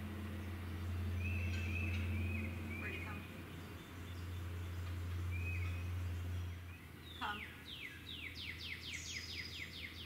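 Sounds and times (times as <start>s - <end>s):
low steady hum: 0.0s - 10.0s
songbird singing: 0.0s - 10.0s.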